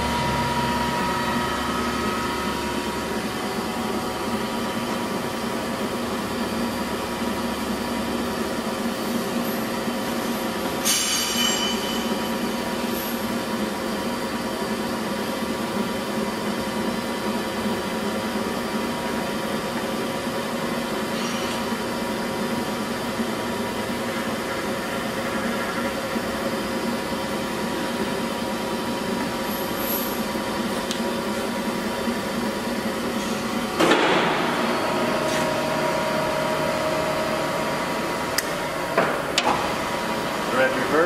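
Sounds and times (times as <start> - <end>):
lathe gears whirring: 0.0 - 41.0.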